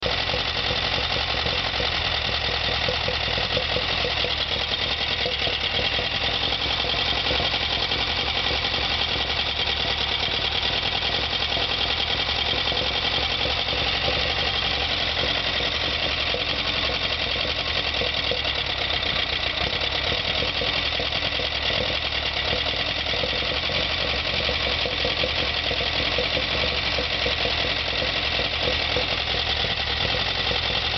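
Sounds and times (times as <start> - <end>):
car engine running: 0.0 - 30.9.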